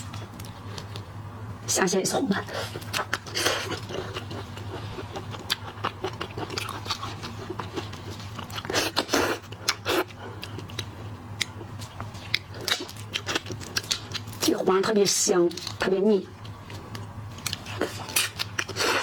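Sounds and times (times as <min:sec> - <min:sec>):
steady low hum: 0:00.0 - 0:19.0
person chewing and crunching food: 0:02.5 - 0:14.6, 0:15.5 - 0:19.0.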